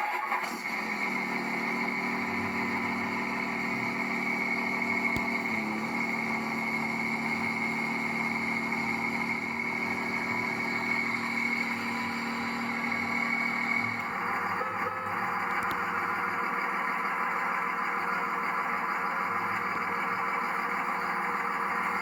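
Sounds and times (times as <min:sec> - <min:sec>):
diesel engine idling: 0:00.0 - 0:22.0
turbo whine: 0:00.0 - 0:22.0.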